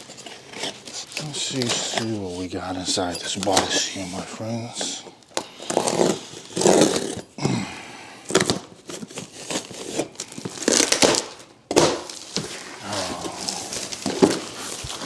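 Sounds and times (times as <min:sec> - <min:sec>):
crinkling and tearing of wrapping: 0:00.0 - 0:15.0.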